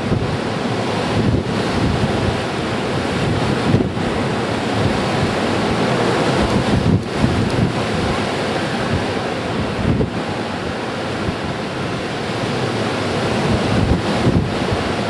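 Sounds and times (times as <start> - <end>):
blizzard wind blowing: 0.0 - 15.0
wind buffeting microphone: 0.0 - 15.0.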